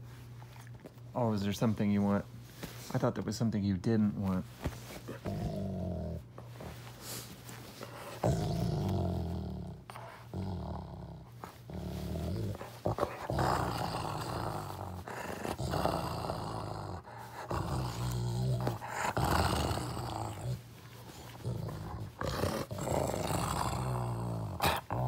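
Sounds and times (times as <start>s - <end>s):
dog play-growling: 4.2s - 25.0s.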